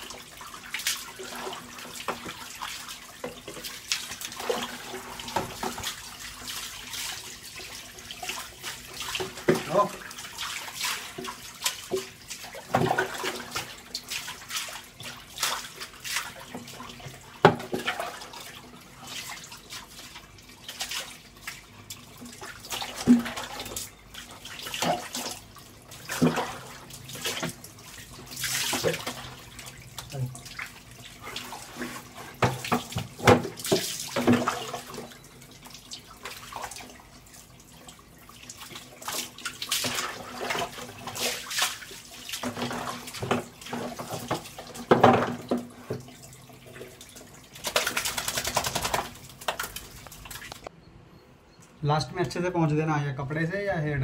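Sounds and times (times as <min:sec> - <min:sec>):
water pouring and splashing: 0:00.0 - 0:50.7.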